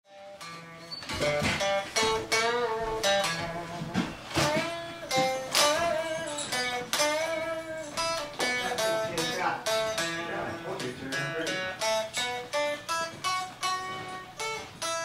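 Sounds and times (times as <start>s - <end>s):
plucked guitar music: 0.1s - 15.0s.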